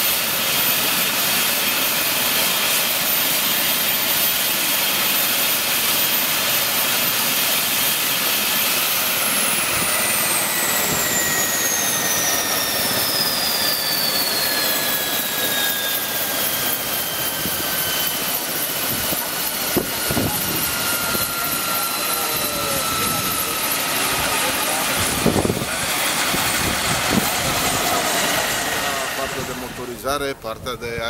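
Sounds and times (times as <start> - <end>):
helicopter rotor rush: 0.0 - 31.0
turbine whine: 0.0 - 31.0.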